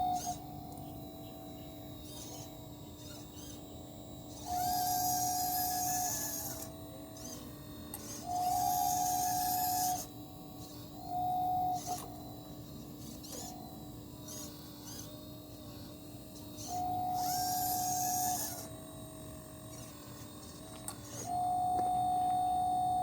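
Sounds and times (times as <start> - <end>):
small electric motors whining: 0.0 - 23.0.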